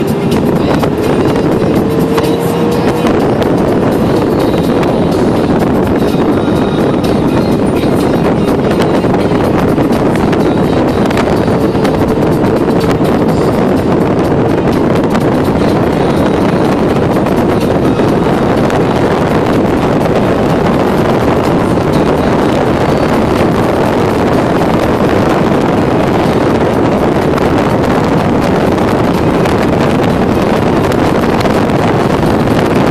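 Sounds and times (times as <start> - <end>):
tyre and engine hum: 0.0 - 32.9
wind buffeting microphone: 0.0 - 32.9
wind rushing: 0.0 - 32.9.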